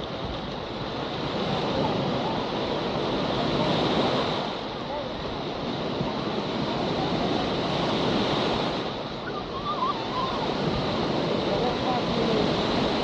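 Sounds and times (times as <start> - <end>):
waves breaking on sandy shore: 0.0 - 13.0.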